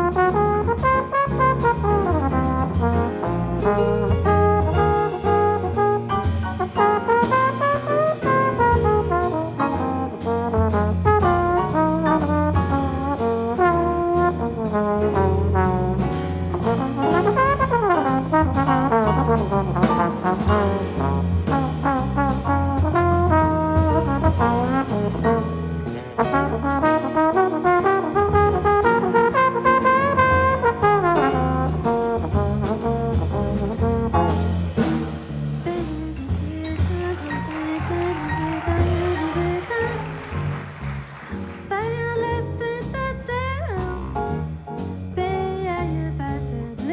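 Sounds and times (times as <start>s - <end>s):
drum kit: 0.0s - 46.9s
jazz trombone solo: 0.0s - 46.9s
piano: 0.0s - 46.9s.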